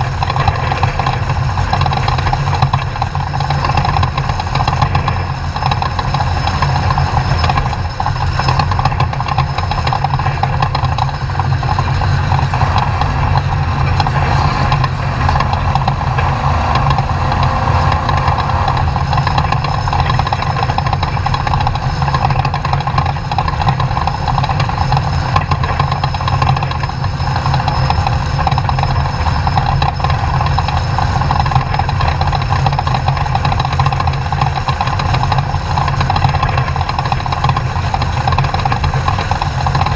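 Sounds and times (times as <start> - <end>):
constant noisy roar: 0.0 - 39.9
race truck engine running: 0.0 - 39.9.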